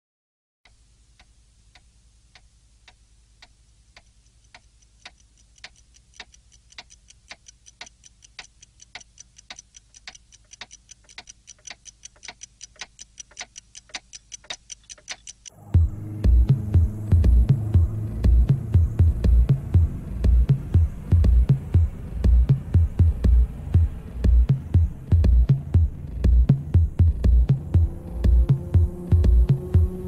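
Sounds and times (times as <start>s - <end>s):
clock ticking: 0.7s - 30.0s.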